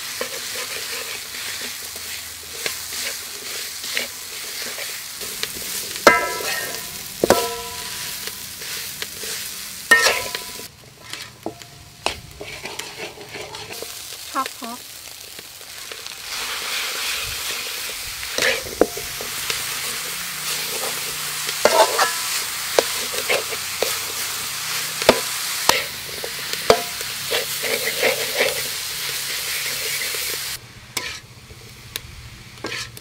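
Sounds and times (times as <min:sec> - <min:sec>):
spatula scraping metal pan: 0:00.0 - 0:14.0, 0:16.3 - 0:31.3, 0:32.6 - 0:33.0
food sizzling in a wok: 0:00.0 - 0:33.0.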